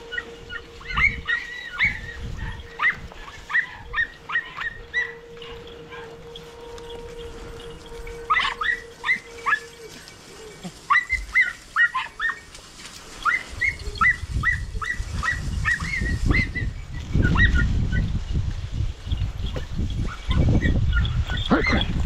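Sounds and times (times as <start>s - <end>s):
dogs yelping: 0.0s - 18.0s.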